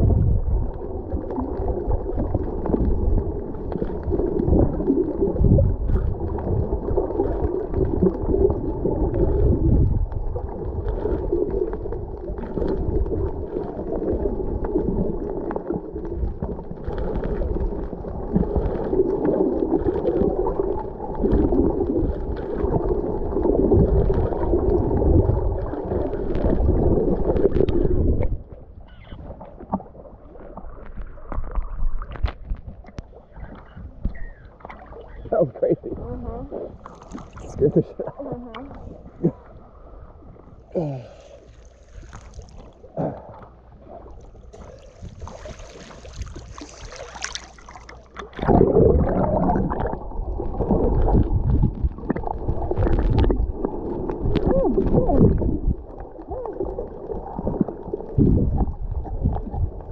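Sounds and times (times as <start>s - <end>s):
underwater churning rumble: 0.0s - 59.9s
small water splashes: 0.6s - 35.6s, 36.7s - 39.6s, 40.6s - 59.9s.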